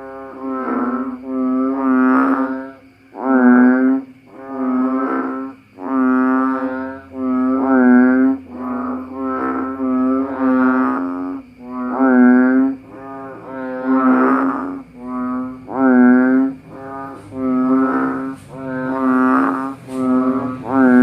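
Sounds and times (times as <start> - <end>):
frog calls: 0.0 - 21.0.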